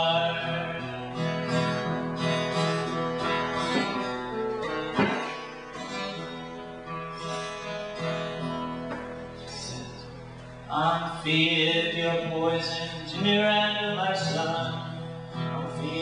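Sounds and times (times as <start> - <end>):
plucked guitar-like instrument: 0.0 - 16.0.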